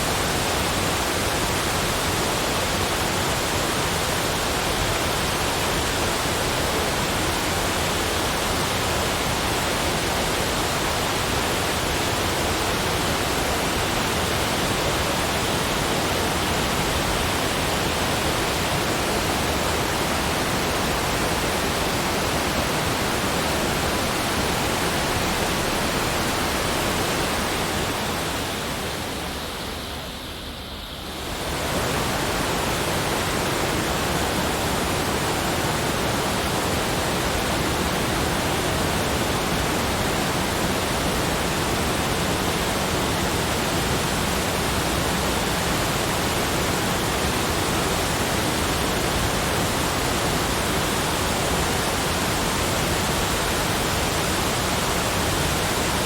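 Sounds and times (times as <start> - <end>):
steady broadband rushing noise: 0.0 - 56.0.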